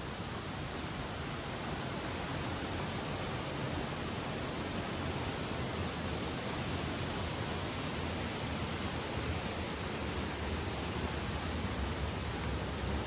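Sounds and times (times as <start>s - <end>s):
creek water rushing over rocks: 0.0s - 13.0s.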